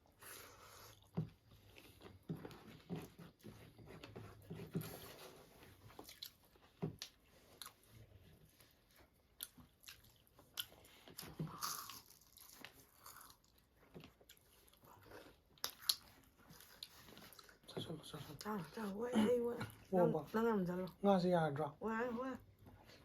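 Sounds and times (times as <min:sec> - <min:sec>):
soft chewing: 0:00.0 - 0:21.0, 0:22.4 - 0:23.0.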